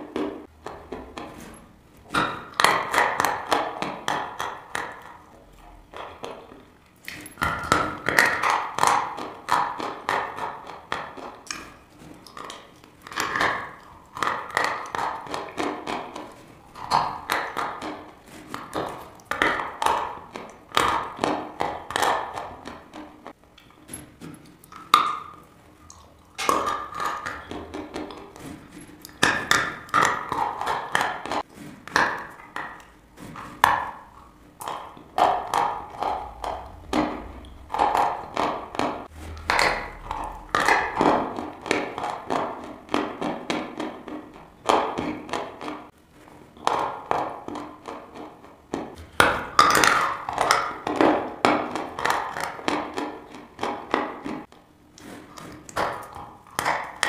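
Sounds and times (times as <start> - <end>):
chewing chalk crunches: 2.1 - 45.7, 46.5 - 57.0.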